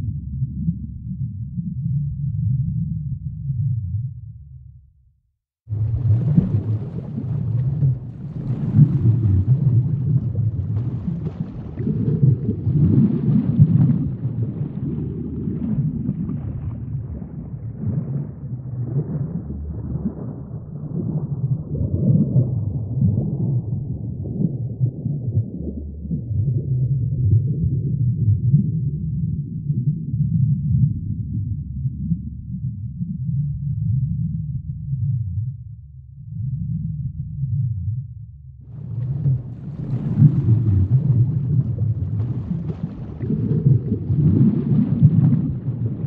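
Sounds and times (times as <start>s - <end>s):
deep low rumble: 0.0s - 5.1s, 5.7s - 46.0s.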